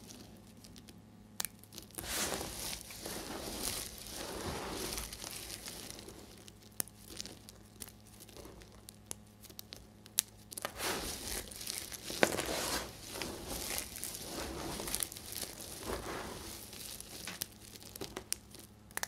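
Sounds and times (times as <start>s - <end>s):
soap chips rustling and clicking: 0.0s - 19.0s.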